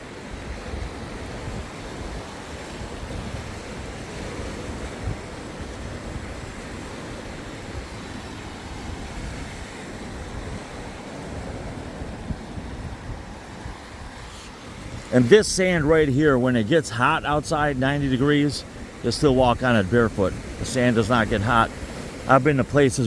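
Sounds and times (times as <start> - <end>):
sea waves washing onto beach: 0.0 - 23.0
wind buffeting microphone: 0.0 - 23.0.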